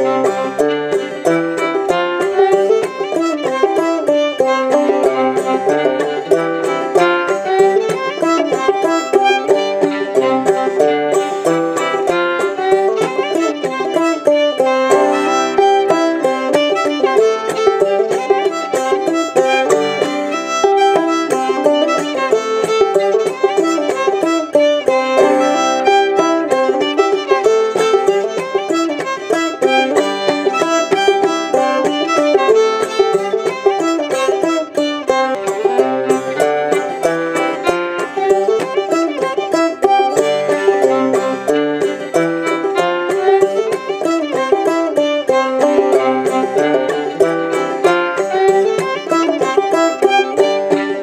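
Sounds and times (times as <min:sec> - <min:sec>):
banjo frailing: 0:00.0 - 0:51.0
bowed fiddle melody: 0:00.0 - 0:51.0.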